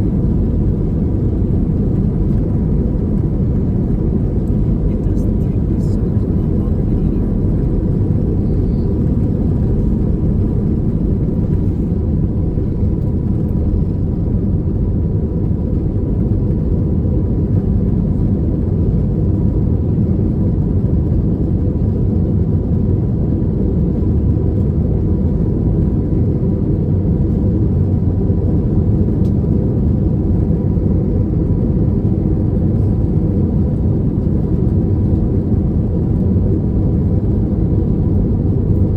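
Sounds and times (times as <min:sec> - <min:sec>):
faint engine whine: 0:00.0 - 0:38.9
jet engine rumble in cabin: 0:00.0 - 0:38.9.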